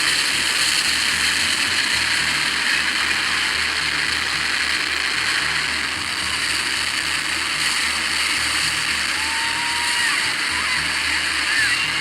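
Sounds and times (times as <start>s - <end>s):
helicopter engine and rotor noise: 0.0s - 12.0s.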